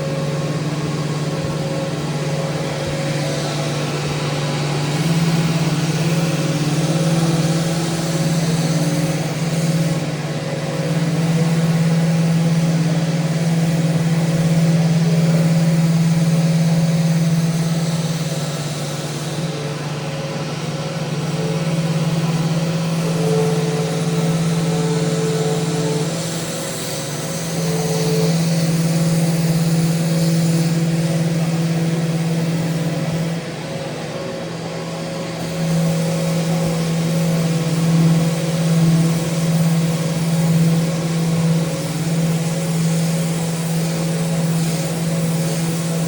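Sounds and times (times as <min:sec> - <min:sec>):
electric sander on wood: 0:00.0 - 0:46.0.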